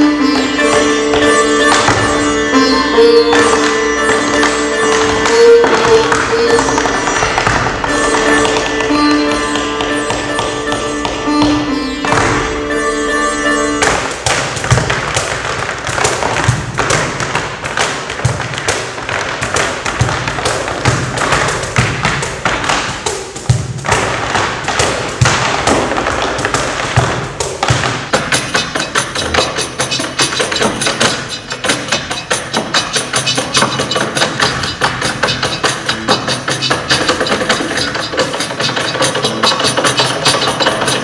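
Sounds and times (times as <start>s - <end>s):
percussion-led music: 0.0s - 41.0s
tap shoes on stage floor: 0.2s - 2.3s, 3.2s - 12.5s, 13.8s - 41.0s.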